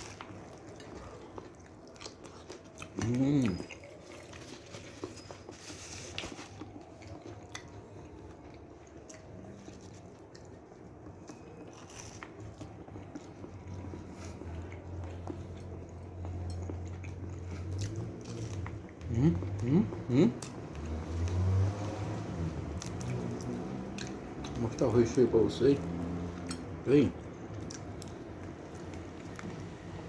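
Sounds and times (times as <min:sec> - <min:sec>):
person chewing crispy food: 0:00.0 - 0:30.0.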